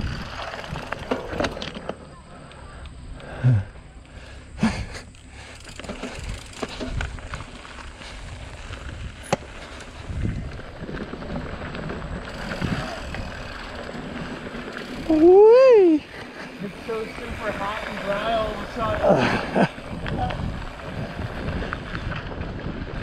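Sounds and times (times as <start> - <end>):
bike rattling and knocking: 0.0 - 2.0, 4.6 - 23.0
bike tyres rolling over dirt: 0.0 - 23.0.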